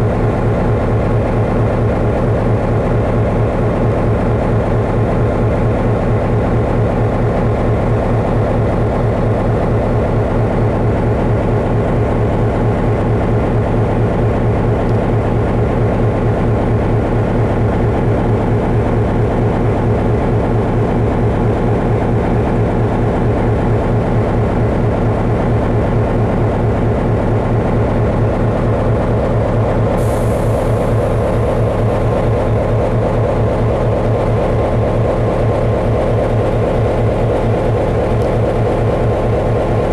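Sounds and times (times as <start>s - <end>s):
train running drone: 0.0s - 39.9s.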